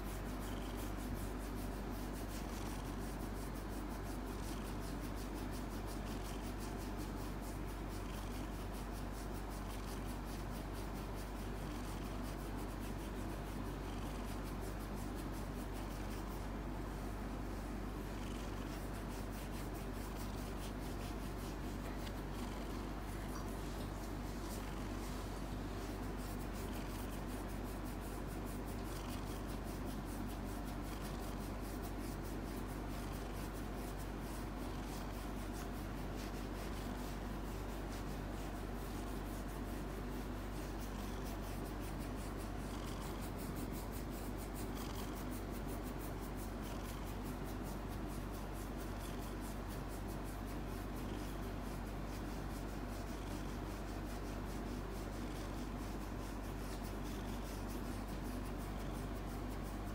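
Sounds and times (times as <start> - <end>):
cat purring: 0.0 - 59.9
fingers rubbing fur: 0.0 - 59.9.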